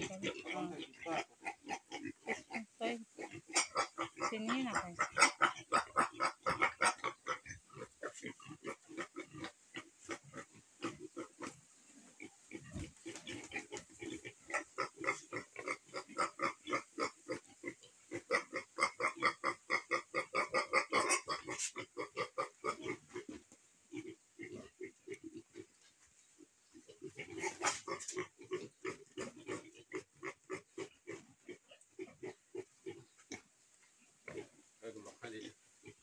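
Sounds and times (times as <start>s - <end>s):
piglets grunting: 0.0s - 11.6s, 12.2s - 25.7s, 26.8s - 33.4s.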